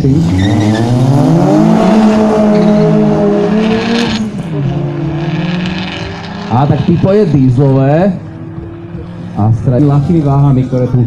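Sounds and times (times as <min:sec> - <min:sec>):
racing cars accelerating: 0:00.0 - 0:11.0.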